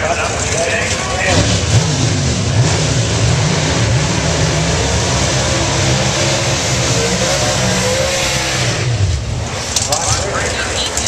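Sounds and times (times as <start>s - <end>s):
engines revving hard: 0.0s - 11.0s.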